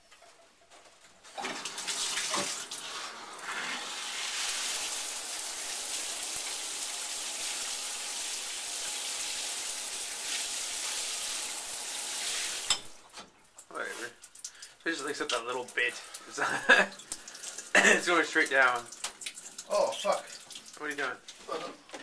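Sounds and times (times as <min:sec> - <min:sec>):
shower water running: 0:01.2 - 0:22.0.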